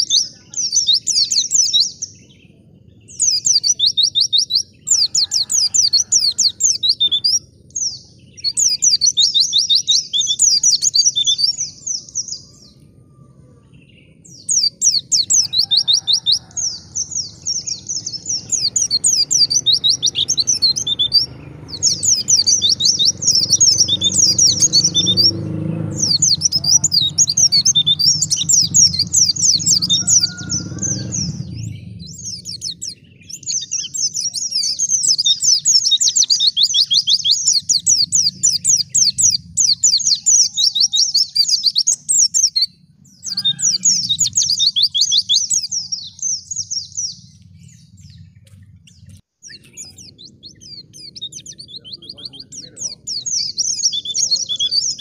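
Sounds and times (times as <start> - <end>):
low background rumble: 0.0 - 54.0
bird high-pitched twittering: 0.0 - 55.0.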